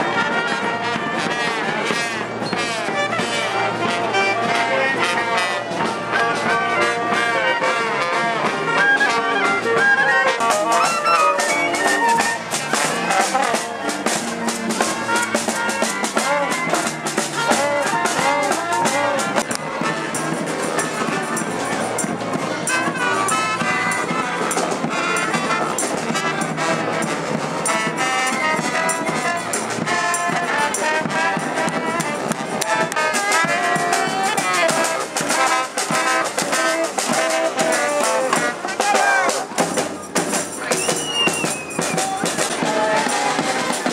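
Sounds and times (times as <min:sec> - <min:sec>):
brass band playing: 0:00.0 - 0:43.9
drums: 0:00.0 - 0:43.9.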